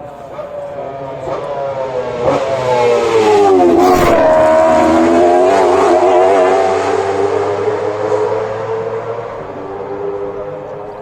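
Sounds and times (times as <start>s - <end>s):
racing sidecar engine passing: 0.0s - 11.0s.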